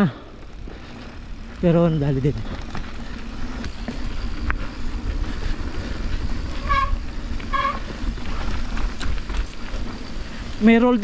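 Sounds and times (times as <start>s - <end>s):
bike tyres rumbling on dirt: 0.0s - 11.0s.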